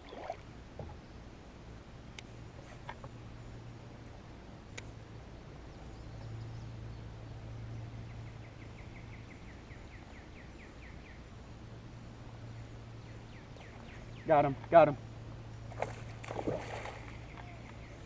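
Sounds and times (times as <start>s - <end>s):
steady low rumble: 0.1s - 18.0s.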